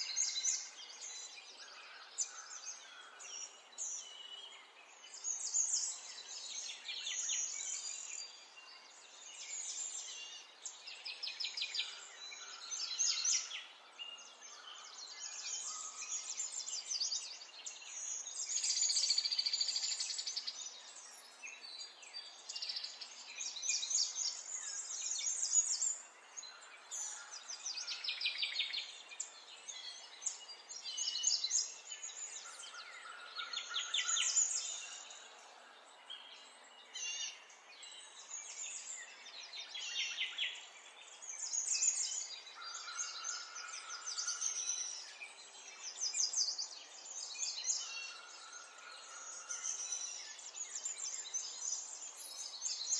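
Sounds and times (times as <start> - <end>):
birds chirping and trilling: 0.0 - 52.9.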